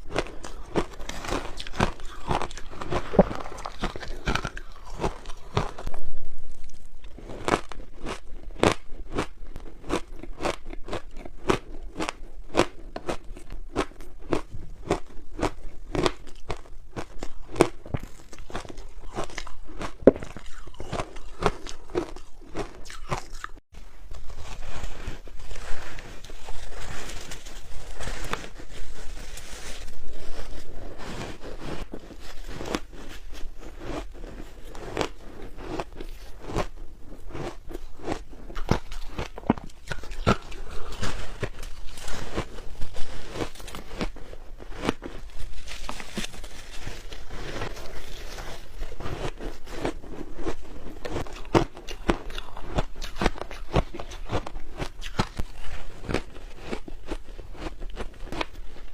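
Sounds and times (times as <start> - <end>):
ice crunching in mouth: 0.0 - 23.6, 24.2 - 58.9.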